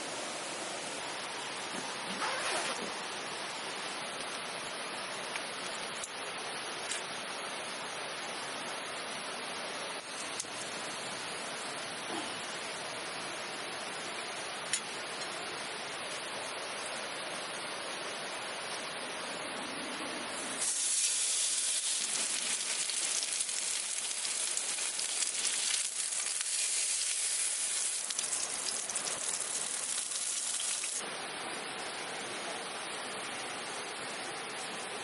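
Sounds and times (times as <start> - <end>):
steady high hiss: 0.0 - 35.0.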